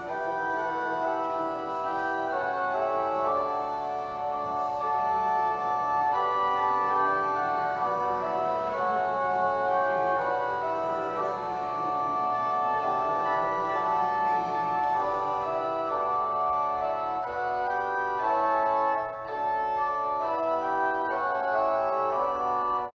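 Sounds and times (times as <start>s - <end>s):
church organ chords: 0.0s - 22.9s.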